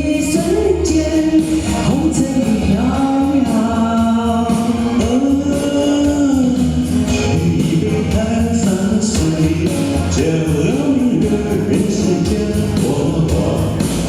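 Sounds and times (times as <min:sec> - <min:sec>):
backing music with bass: 0:00.0 - 0:14.0
person singing live: 0:00.0 - 0:14.0.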